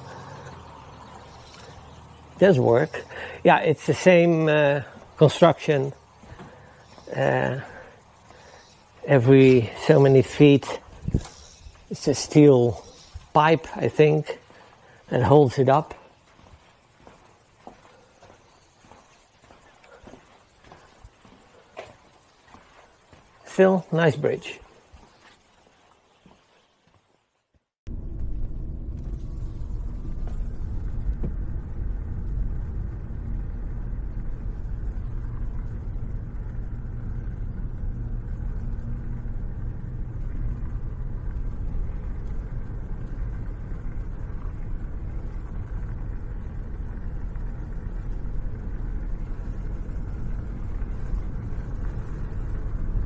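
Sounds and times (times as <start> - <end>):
van engine and road rumble: 0.0 - 26.8, 27.8 - 53.0.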